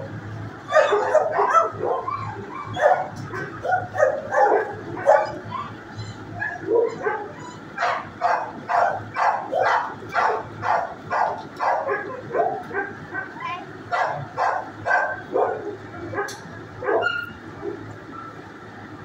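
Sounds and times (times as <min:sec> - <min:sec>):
dogs barking: 0:00.6 - 0:18.4.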